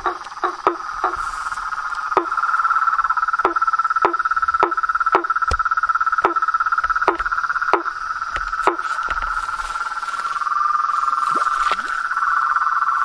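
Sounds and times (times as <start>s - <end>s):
frog continuous trill: 0.0s - 13.0s
frog sharp calls: 0.0s - 13.0s.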